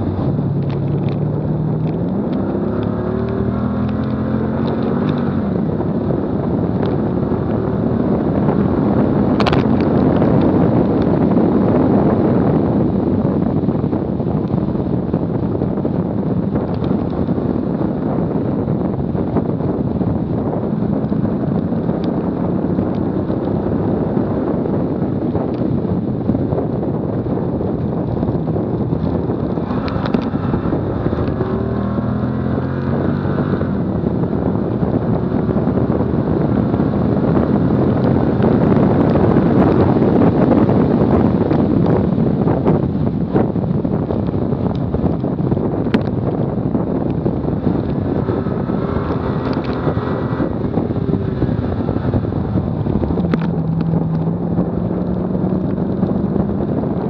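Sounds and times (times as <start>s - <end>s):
car engine accelerating: 0.0s - 57.0s
road noise: 0.0s - 57.0s
wind rushing on microphone: 0.0s - 57.0s.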